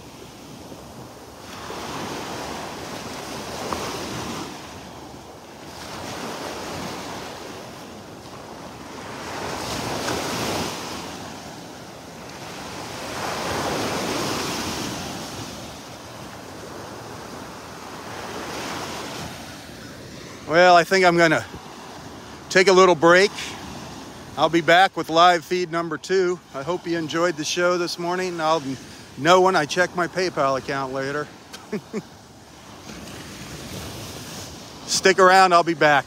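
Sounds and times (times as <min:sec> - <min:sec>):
waves breaking on a beach: 0:00.0 - 0:36.0.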